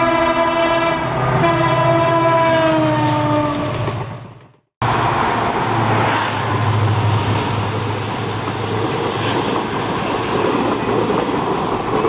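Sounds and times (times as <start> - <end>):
diesel locomotive engine hum: 0.0 - 12.0
rail and wheel noise: 0.0 - 12.0.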